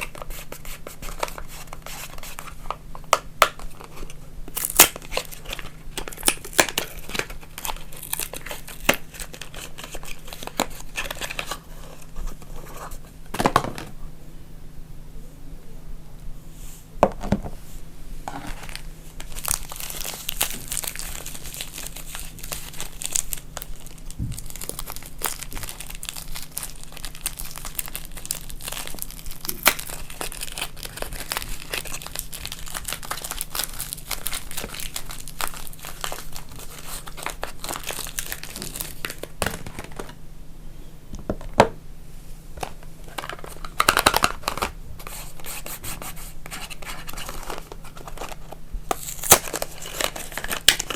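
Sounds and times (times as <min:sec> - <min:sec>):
wrapping crinkling and tearing: 0:00.0 - 0:02.8, 0:03.4 - 0:12.6, 0:18.5 - 0:40.2, 0:43.0 - 0:50.9.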